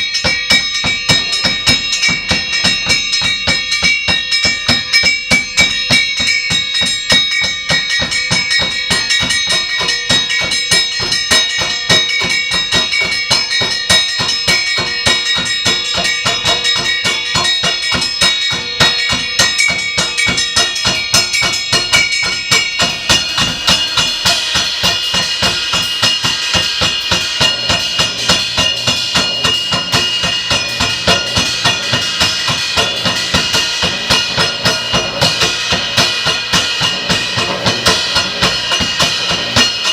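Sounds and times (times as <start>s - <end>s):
fast percussion strikes: 0.0s - 39.9s
ringing tones: 0.0s - 39.9s.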